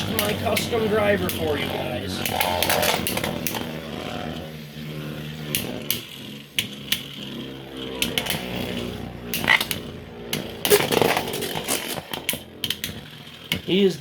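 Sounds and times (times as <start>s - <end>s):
spinning tops whirring: 0.0s - 14.0s.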